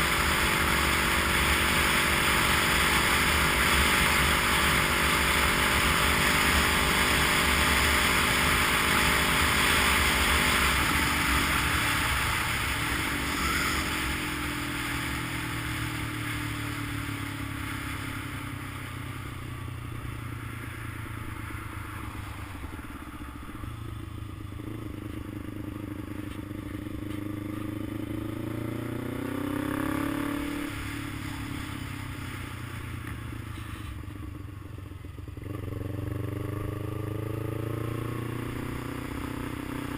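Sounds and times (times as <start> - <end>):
vehicle engine running: 0.0 - 36.4.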